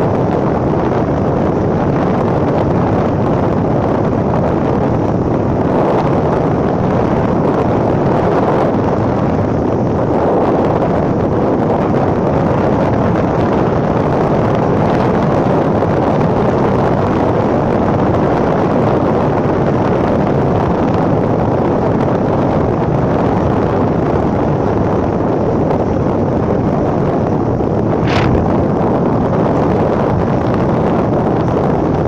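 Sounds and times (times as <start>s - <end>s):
wind buffeting microphone: 0.0s - 23.3s, 24.0s - 32.0s.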